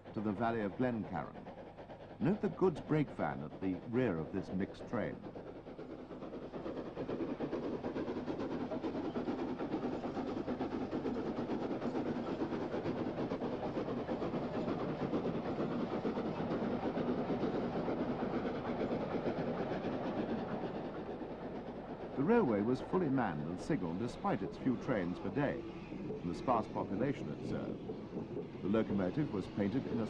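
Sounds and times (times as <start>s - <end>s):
steam locomotive chuffing: 0.0s - 30.0s
train rolling: 0.0s - 30.0s.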